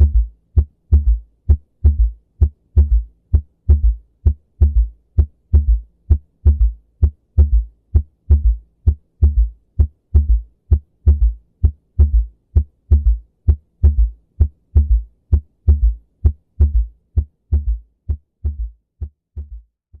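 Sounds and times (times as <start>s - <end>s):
heartbeat with gallop rhythm: 0.0s - 20.0s.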